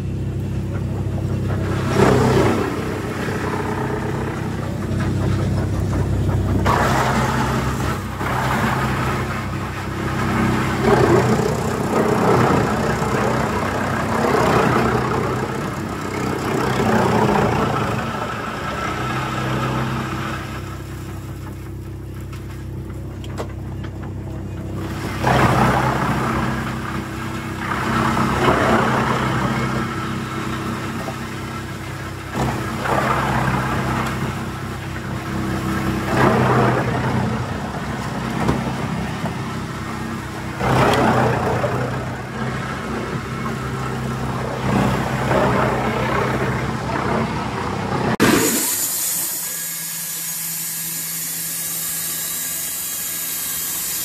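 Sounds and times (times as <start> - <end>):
diesel engine running: 0.0 - 54.0
wood chipper chipping logs: 0.0 - 54.0.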